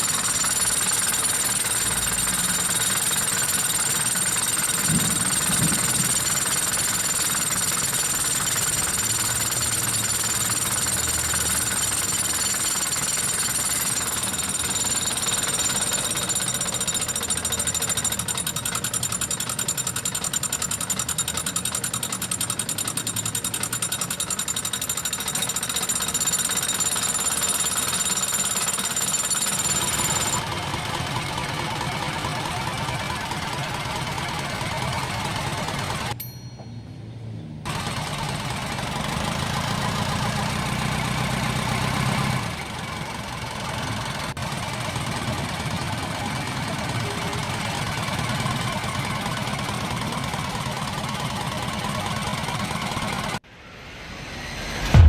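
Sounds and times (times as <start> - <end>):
diesel engine clattering: 0.0 - 36.2, 37.7 - 53.4.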